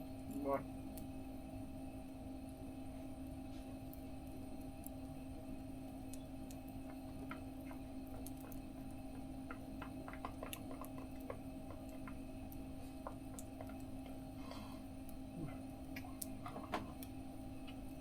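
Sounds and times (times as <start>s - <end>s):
steady low hum: 0.0s - 18.0s
wood stove fire crackling: 0.0s - 18.0s.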